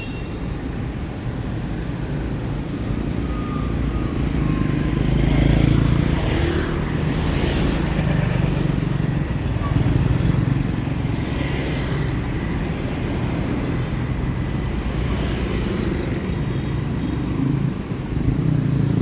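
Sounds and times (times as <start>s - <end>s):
motorbike engines: 0.4s - 19.0s
car engines: 0.5s - 19.0s.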